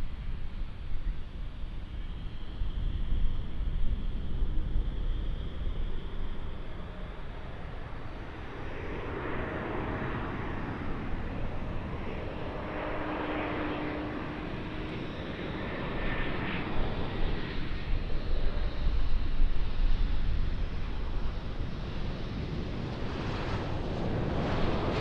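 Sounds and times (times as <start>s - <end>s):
airliner engines rushing: 0.0s - 25.0s.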